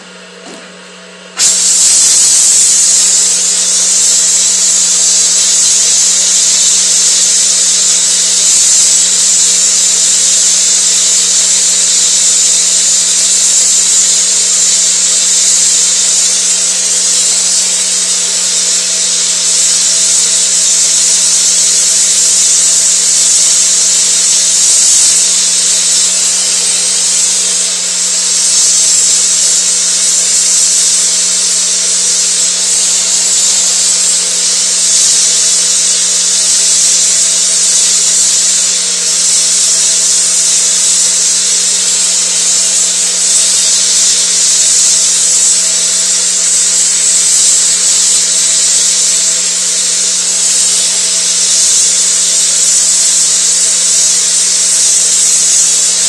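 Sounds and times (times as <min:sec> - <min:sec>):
gas torch flame hissing: 0:00.0 - 0:56.0.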